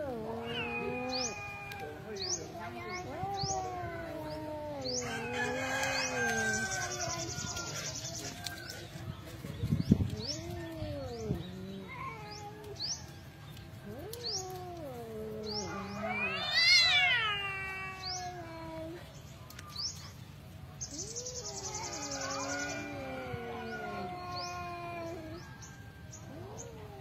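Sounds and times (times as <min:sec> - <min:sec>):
cats yowling: 0:00.0 - 0:09.0, 0:09.9 - 0:19.2, 0:20.9 - 0:27.0.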